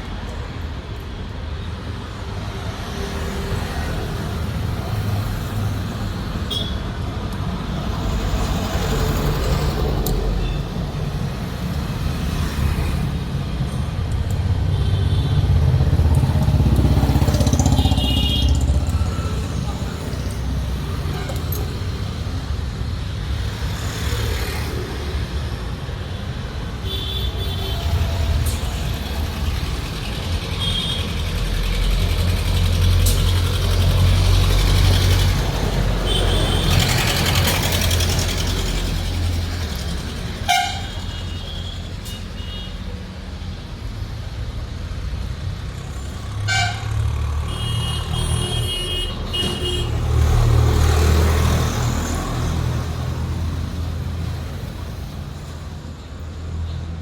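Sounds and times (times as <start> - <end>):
heavy vehicles rumbling past: 1.5 - 57.0.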